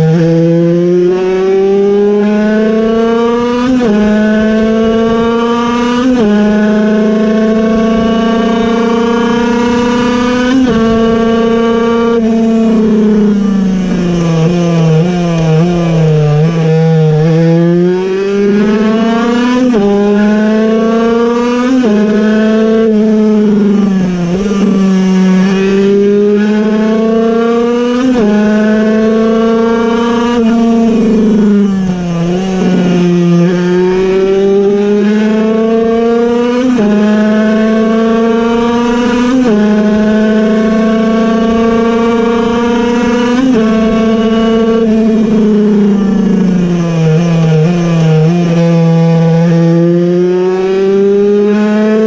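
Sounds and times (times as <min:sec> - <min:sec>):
two-stroke racing engine revving: 0:00.0 - 0:52.0.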